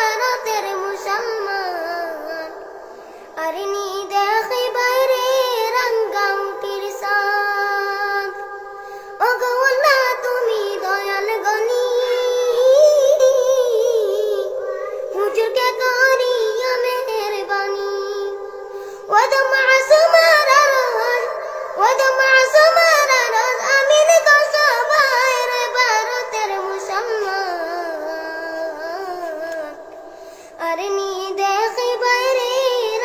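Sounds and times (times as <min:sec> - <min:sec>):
high voice singing devotional song: 0:00.0 - 0:33.0.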